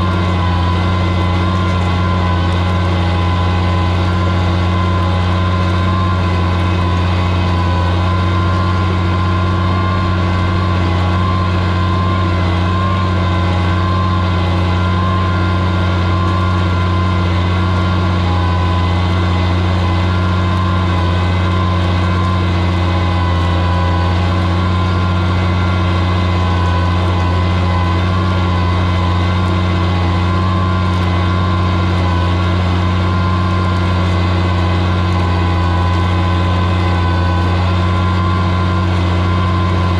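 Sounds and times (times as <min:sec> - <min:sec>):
tractor engine running steadily: 0:00.0 - 0:39.9.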